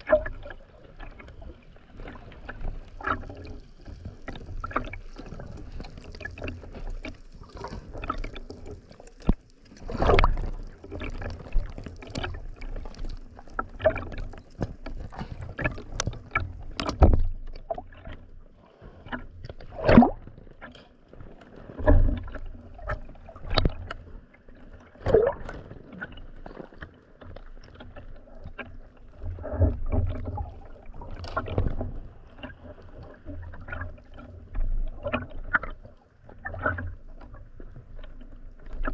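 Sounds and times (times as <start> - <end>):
sea water sloshing and splashing: 0.0 - 38.9.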